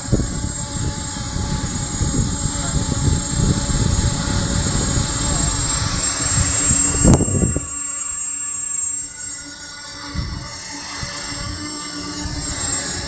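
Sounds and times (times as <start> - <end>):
wind buffeting microphone: 0.0 - 7.9, 9.0 - 13.0
quadcopter motors whining: 0.0 - 13.0.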